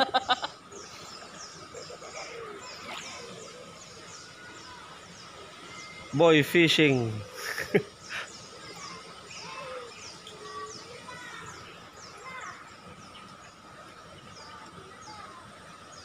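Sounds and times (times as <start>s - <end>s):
birds chirping: 0.0s - 16.0s
lower curving bird calls: 0.0s - 16.0s.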